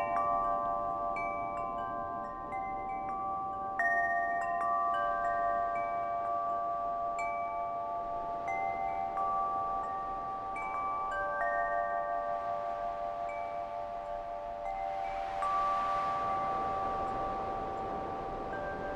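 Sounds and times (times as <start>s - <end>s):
soft hiss: 0.0s - 18.9s.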